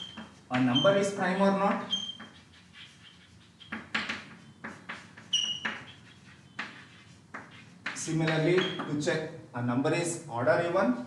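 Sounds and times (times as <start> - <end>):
chalk squeak: 0.0 - 8.9
chalk tapping and scratching: 0.0 - 9.0.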